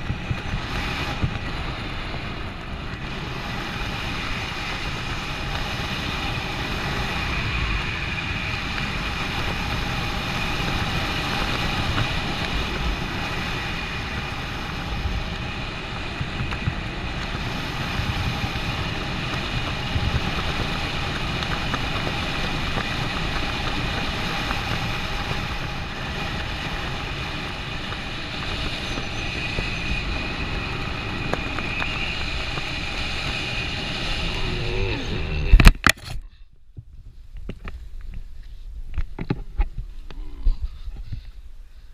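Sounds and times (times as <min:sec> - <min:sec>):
faint high whine: 0:00.0 - 0:36.6
wind rushing over microphone: 0:00.0 - 0:41.7.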